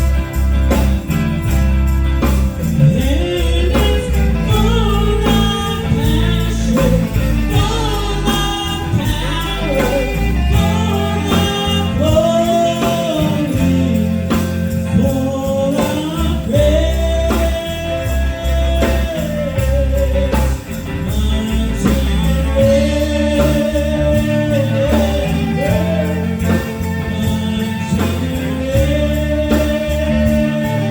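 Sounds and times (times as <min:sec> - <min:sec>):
band playing: 0:00.0 - 0:30.9
person singing gospel: 0:00.0 - 0:30.9.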